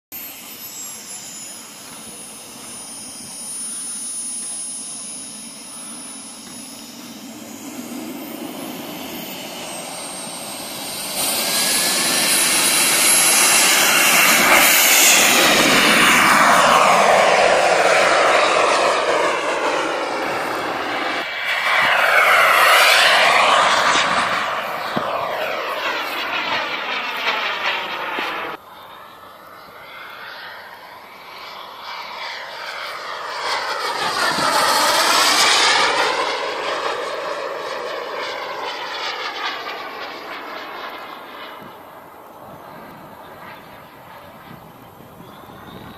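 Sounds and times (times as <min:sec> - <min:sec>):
jet turbine whine: 0:00.1 - 0:45.9
loud rushing jet noise: 0:00.2 - 0:28.6, 0:29.9 - 0:45.9.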